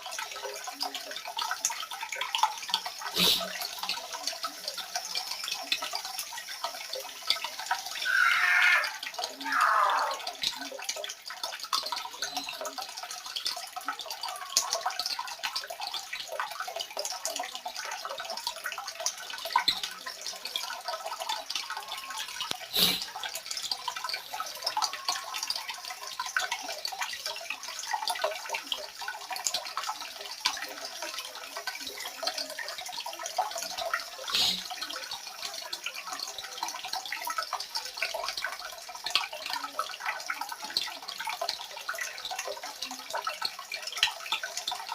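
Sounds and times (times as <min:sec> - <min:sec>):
water running and dripping: 0:00.0 - 0:44.9.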